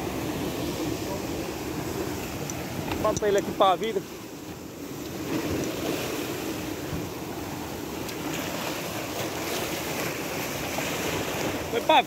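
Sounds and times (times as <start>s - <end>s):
surf washing against rocks: 0.0s - 12.0s.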